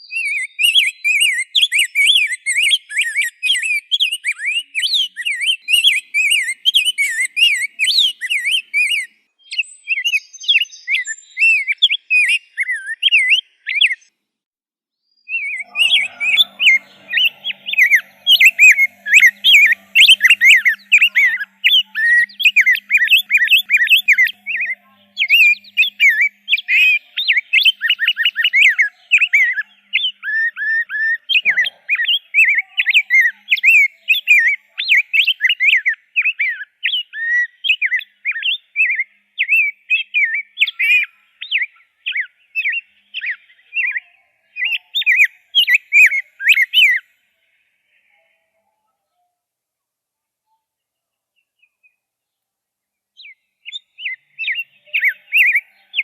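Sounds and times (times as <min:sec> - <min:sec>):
bird singing warbled phrases: 0:00.0 - 0:14.1, 0:15.0 - 0:49.3, 0:50.5 - 0:56.0.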